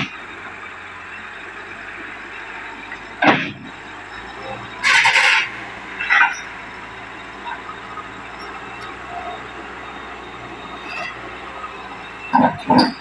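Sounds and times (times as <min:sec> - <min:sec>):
excavator diesel engine and hydraulics: 0:00.0 - 0:13.0.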